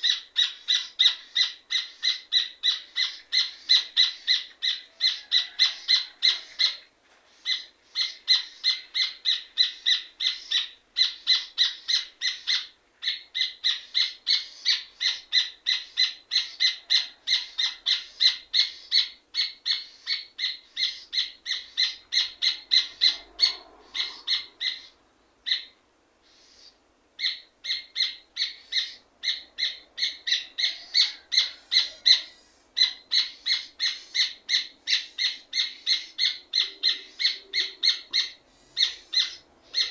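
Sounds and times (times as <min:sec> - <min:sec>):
bird singing rapid repeated notes: 0:07.4 - 0:39.9.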